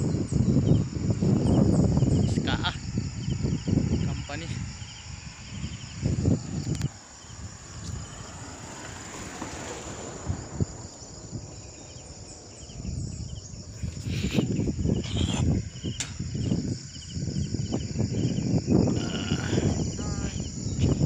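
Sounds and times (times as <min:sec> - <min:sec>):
insects trilling: 0:00.0 - 0:21.0
wind rumbling on microphone: 0:00.0 - 0:21.0.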